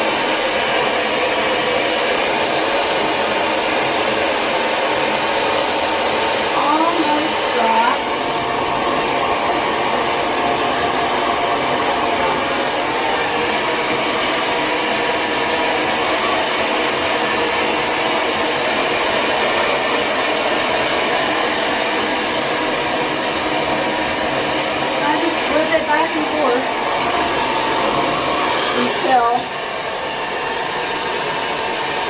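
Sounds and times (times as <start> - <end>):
hair dryer running: 0.0 - 32.0.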